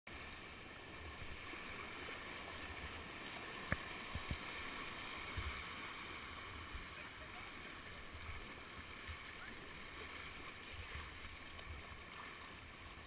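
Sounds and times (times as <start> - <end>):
whitewater rushing and splashing: 0.1 - 13.0.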